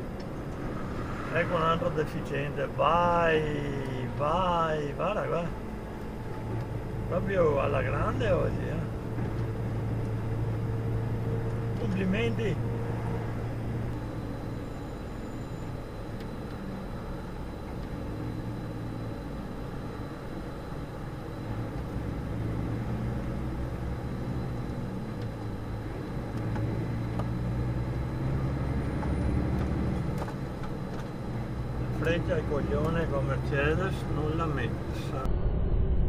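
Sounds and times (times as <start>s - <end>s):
truck engine running: 0.0s - 35.2s
road noise: 0.0s - 36.0s.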